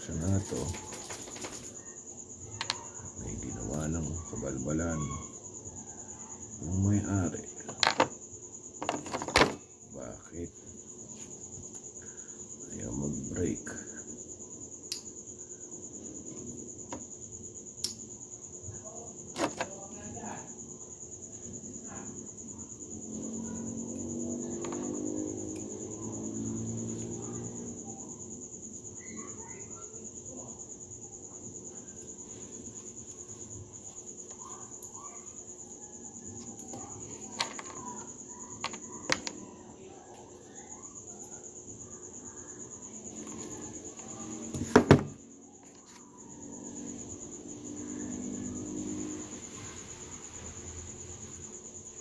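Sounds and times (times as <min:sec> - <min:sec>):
high-pitched insect trill: 0:00.0 - 0:52.0.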